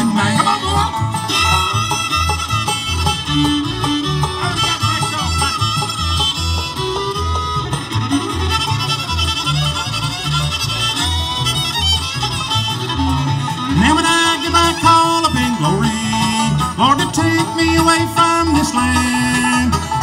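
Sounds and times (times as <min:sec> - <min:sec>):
bass beat: 0:00.0 - 0:20.0
fiddle lead: 0:00.0 - 0:20.0
strummed guitar: 0:00.0 - 0:20.0.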